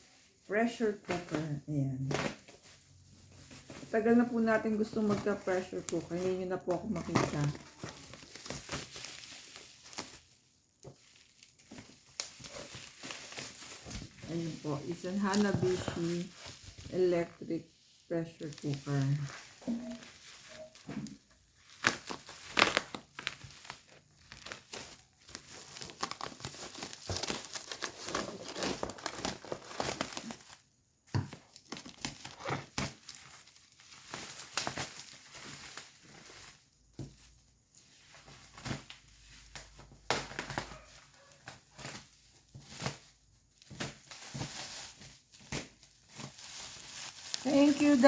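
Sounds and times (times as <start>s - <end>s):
packaging crinkling and tearing: 1.1s - 48.0s.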